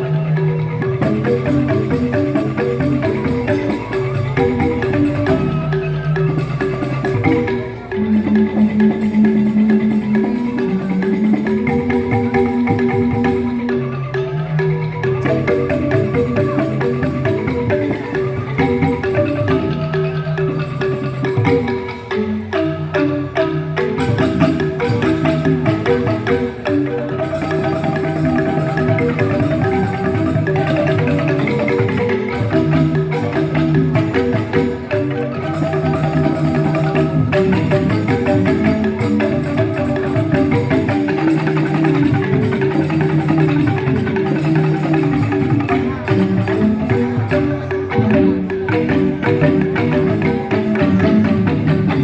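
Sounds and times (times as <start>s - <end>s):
bamboo xylophones ringing: 0.0s - 52.0s.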